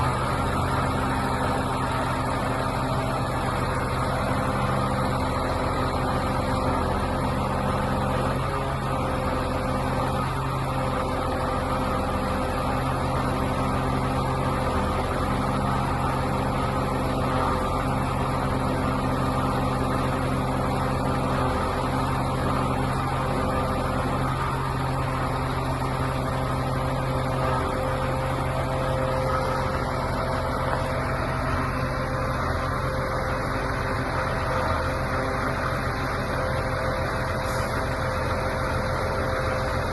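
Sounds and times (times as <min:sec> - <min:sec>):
truck diesel engine humming: 0:00.0 - 0:39.9.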